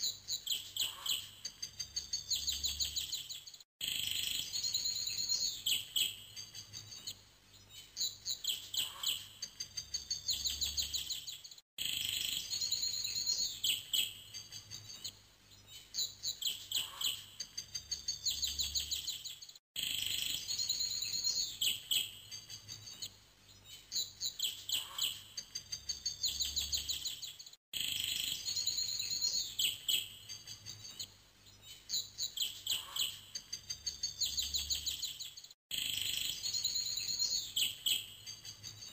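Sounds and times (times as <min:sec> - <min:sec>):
birdsong chirps and trills: 0:00.0 - 0:38.9.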